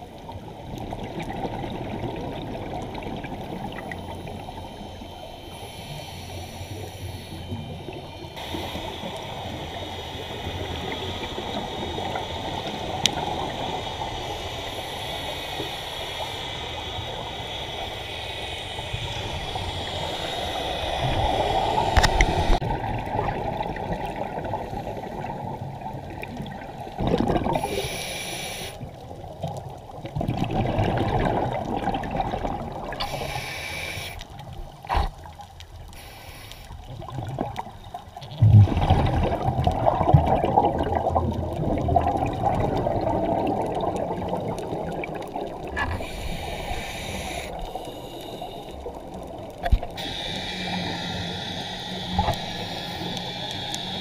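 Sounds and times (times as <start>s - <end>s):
steady water hiss: 0.0s - 54.0s
underwater bubbling and gurgling: 0.0s - 54.0s.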